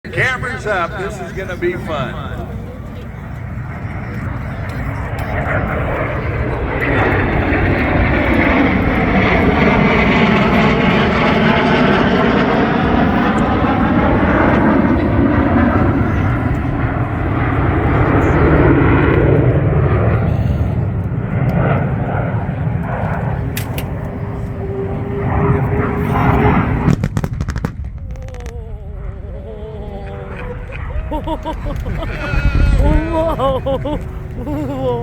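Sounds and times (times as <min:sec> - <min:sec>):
aircraft flying past low: 0:00.1 - 0:35.0.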